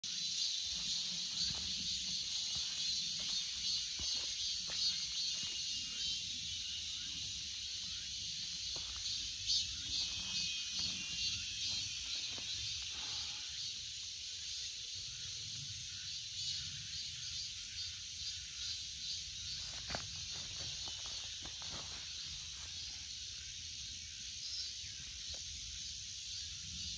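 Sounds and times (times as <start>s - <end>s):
cicadas buzzing: 0.0s - 26.9s.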